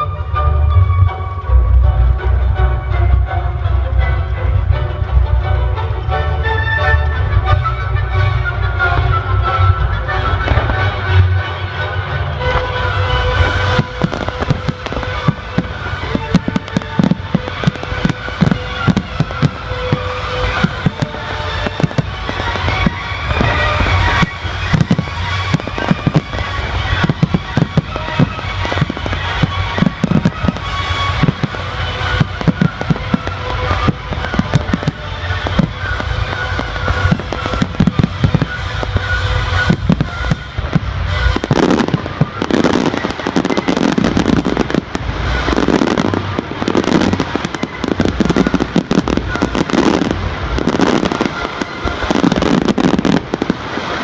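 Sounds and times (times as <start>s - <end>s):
firework bangs and bursts: 0.0s - 54.0s
music over loudspeakers: 0.0s - 54.0s.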